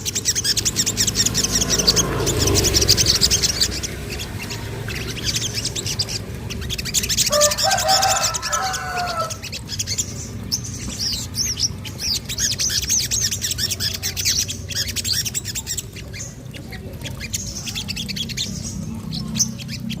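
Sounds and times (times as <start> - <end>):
sunbird chirps and trills: 0.0 - 20.0.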